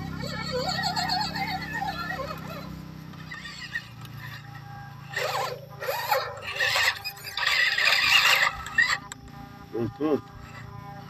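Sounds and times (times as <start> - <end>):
electric motors and gearboxes whining: 0.0 - 11.0.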